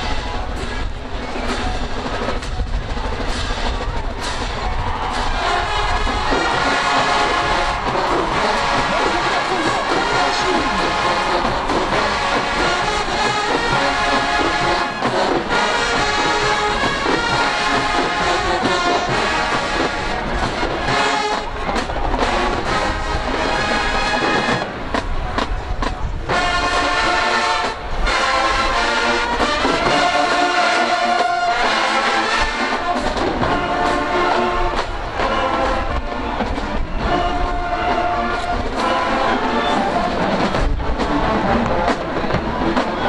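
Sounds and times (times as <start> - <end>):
marching band playing: 0.0 - 43.0.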